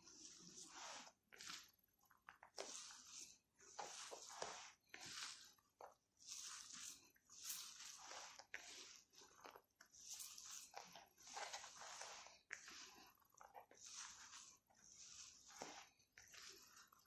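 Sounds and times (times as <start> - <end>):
bulgur being kneaded by hand: 0.0 - 17.0.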